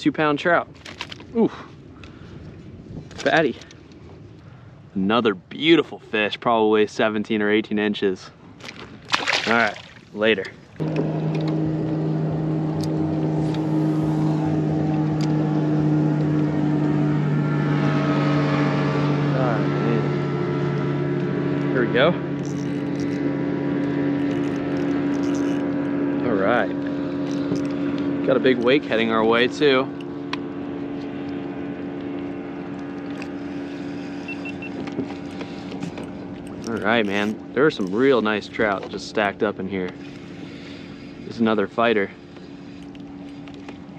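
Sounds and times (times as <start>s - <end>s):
motorboat engine running: 8.4s - 43.9s.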